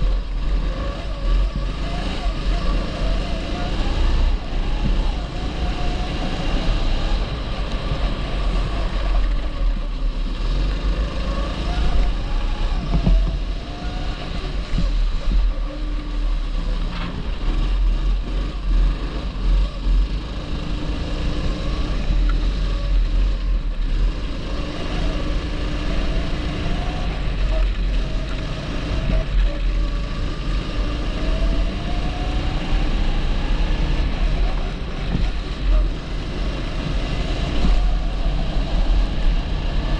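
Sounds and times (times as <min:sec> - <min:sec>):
go-kart engine accelerating: 0:00.0 - 0:39.9.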